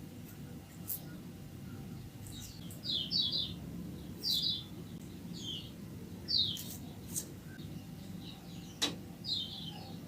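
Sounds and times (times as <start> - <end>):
small birds chirping: 0.2 - 10.0.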